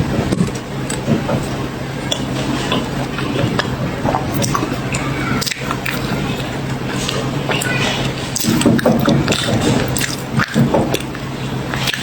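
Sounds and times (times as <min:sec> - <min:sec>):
chewing crunchy cookies: 0:00.4 - 0:12.0.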